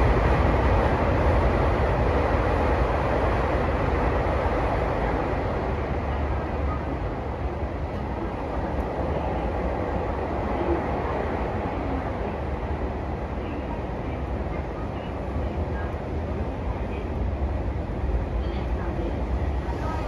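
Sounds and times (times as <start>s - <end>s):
electric train rumbling inside car: 0.0s - 20.0s.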